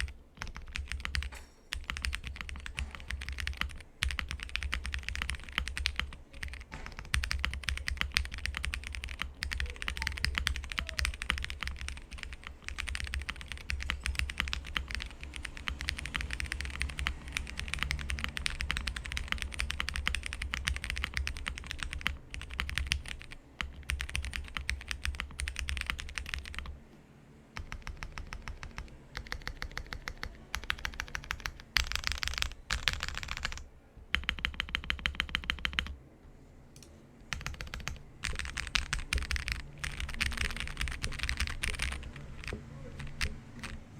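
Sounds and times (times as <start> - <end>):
fast mechanical keyboard typing: 0.0 - 26.8, 27.6 - 36.0, 37.2 - 43.9.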